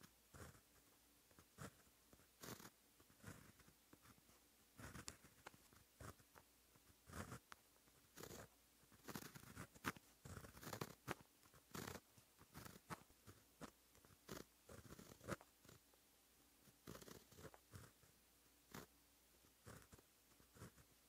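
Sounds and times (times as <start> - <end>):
pen scratching on paper: 0.0 - 15.8, 16.6 - 21.0.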